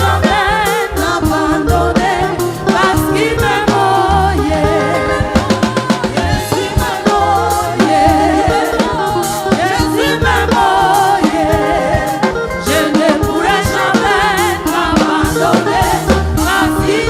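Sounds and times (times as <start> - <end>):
drums and bass beat: 0.0 - 17.0
gospel praise music: 0.0 - 17.0
voices singing with vibrato: 0.0 - 17.0.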